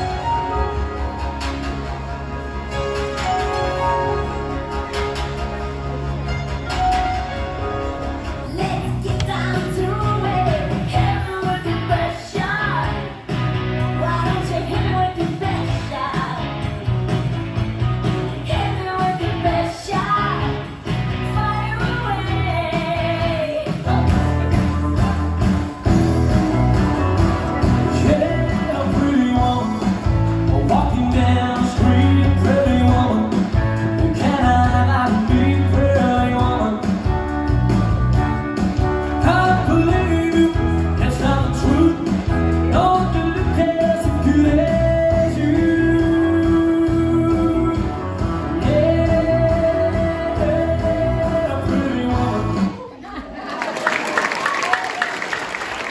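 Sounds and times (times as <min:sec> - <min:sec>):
pop song with singer and beat: 0:00.0 - 0:53.2.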